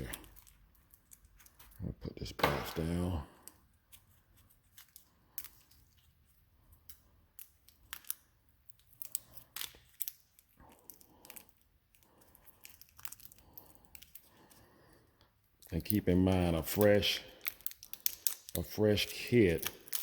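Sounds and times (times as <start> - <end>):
packaging crinkling: 0.0 - 1.8, 2.7 - 15.0, 15.6 - 20.0.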